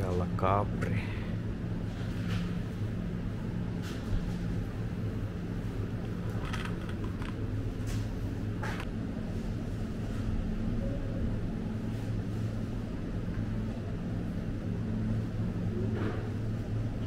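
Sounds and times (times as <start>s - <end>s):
refrigeration units humming: 0.0s - 17.0s.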